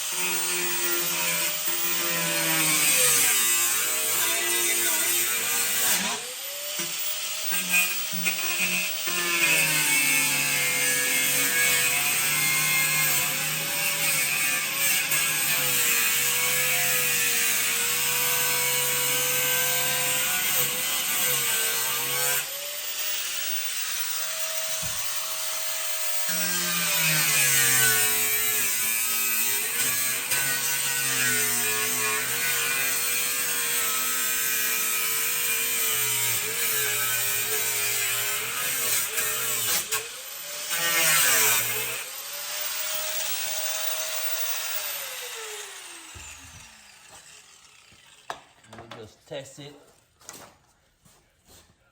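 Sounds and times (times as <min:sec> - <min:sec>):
electric power saw cutting: 0:00.0 - 0:48.7.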